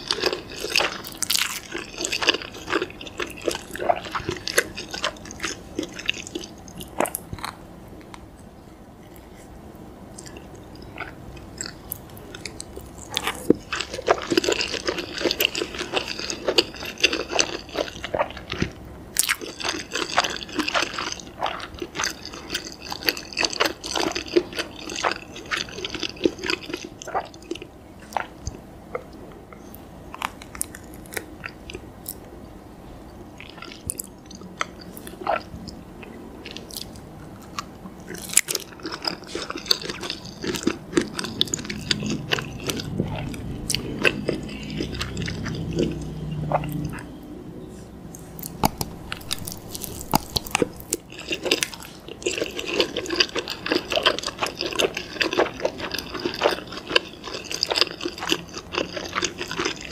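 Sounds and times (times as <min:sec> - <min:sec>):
biting and wet chewing: 0:00.0 - 0:32.3, 0:33.1 - 0:59.9.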